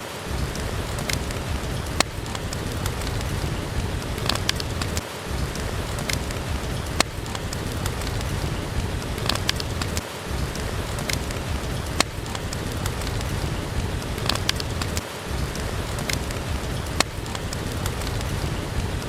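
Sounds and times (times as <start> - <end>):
steady rain falling: 0.0 - 19.0
wood fire crackling: 0.0 - 19.0.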